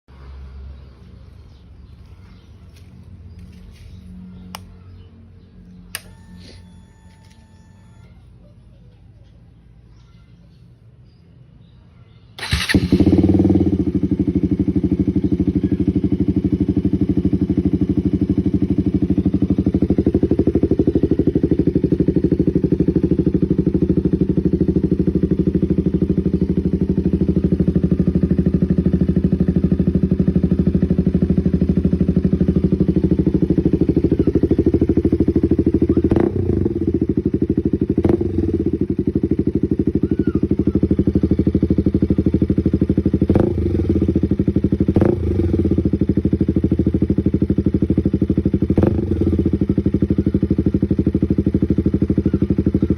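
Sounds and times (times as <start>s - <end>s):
motorcycle engine idling: 0.2s - 11.2s, 12.3s - 52.9s.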